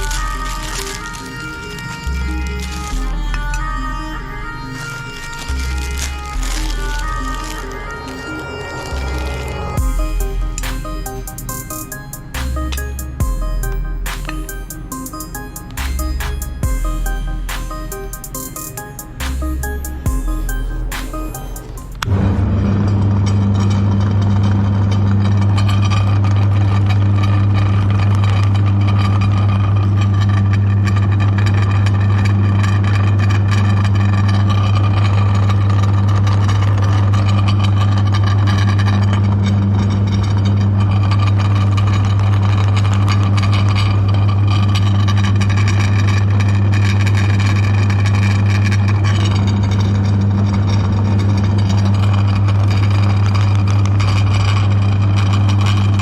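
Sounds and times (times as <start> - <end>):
electric meat grinder humming: 0.0 - 17.5, 19.5 - 56.0.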